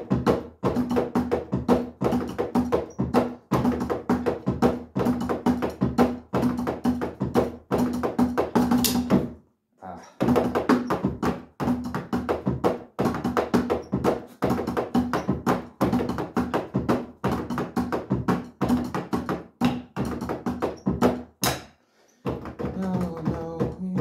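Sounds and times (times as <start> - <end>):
electronic drum kit played with sticks: 0.0 - 9.4, 10.2 - 24.0.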